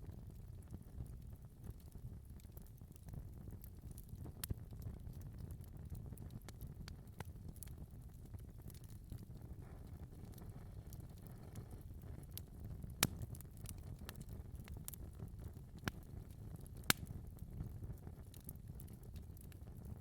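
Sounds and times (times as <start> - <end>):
fire crackling in fireplace: 0.0 - 20.0.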